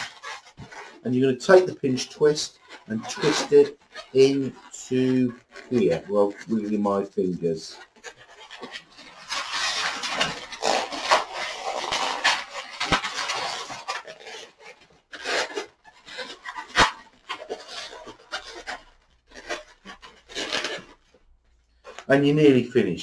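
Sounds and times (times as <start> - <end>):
balloon squeaking and rubbing: 0.0 - 23.0.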